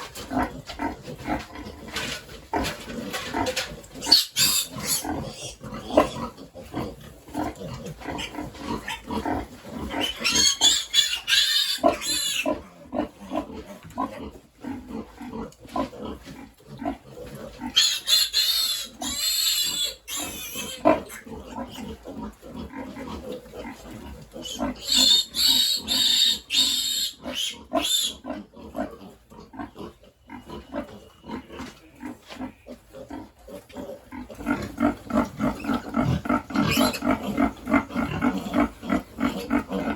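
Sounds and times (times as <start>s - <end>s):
pigs grunting: 0.0s - 39.9s
pigs squealing: 2.5s - 39.9s.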